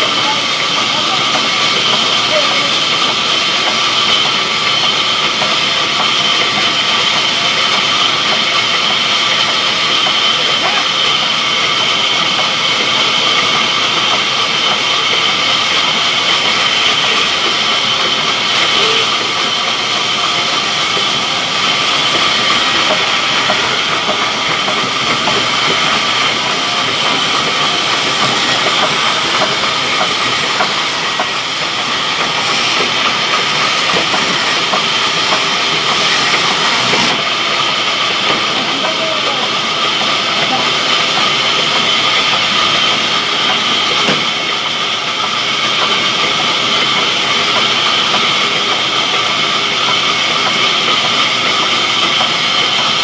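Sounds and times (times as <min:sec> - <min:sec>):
band saw cutting wood: 0:00.0 - 0:53.0.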